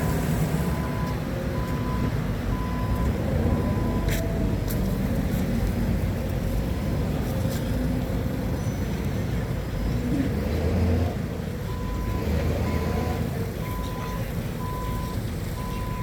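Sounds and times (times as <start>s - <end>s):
forklift engine rumbling: 0.0s - 16.0s.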